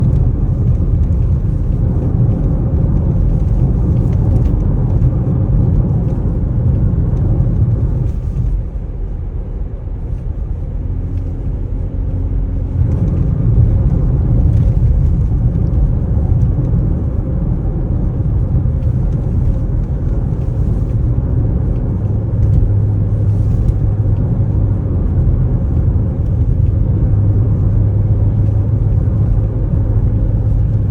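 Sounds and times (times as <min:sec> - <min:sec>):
low rumble of moving car: 0:00.0 - 0:30.9.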